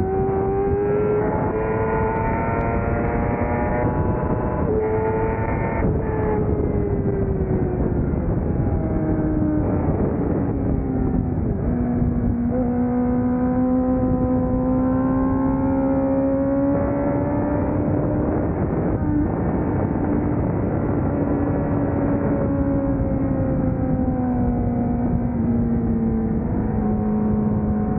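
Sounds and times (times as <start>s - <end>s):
motorcycle engine running hard: 0.0s - 27.9s
wind noise: 0.0s - 27.9s.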